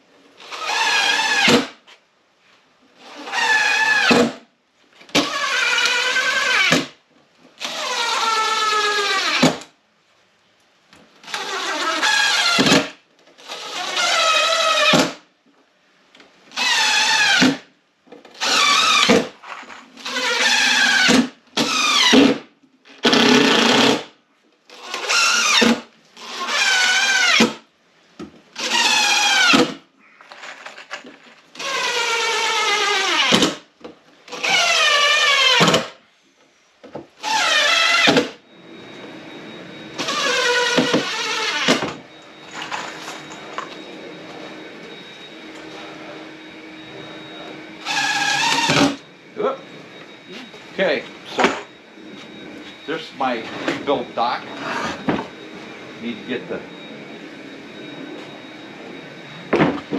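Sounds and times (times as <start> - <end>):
power drill whining in bursts: 0.4 - 1.8, 3.0 - 4.5, 5.1 - 7.0, 7.6 - 9.6, 11.2 - 15.2, 16.5 - 17.7, 18.3 - 27.7, 28.5 - 59.9.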